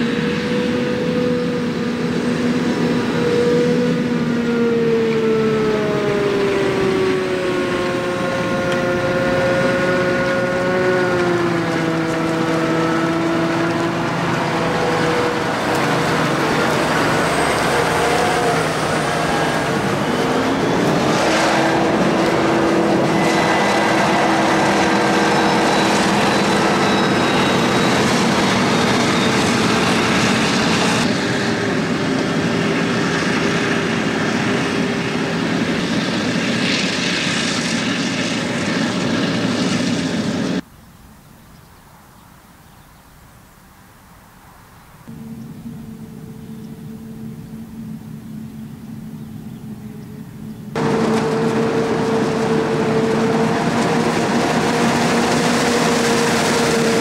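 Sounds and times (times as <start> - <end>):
machinery whining tones: 0.0 - 40.6, 45.1 - 57.0
harvester engine and machinery hum: 0.0 - 57.0.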